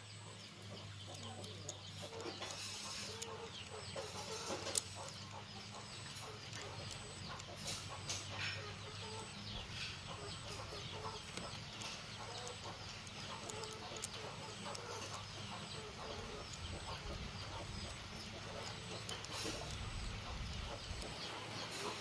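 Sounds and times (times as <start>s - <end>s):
chickens clucking and chirping: 0.0s - 22.0s
steady low hum: 0.0s - 22.0s.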